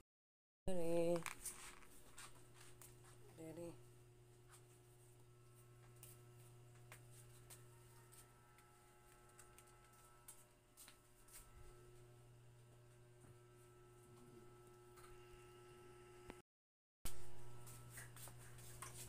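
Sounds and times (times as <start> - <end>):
steady low hum: 0.7 - 16.4, 17.1 - 19.0.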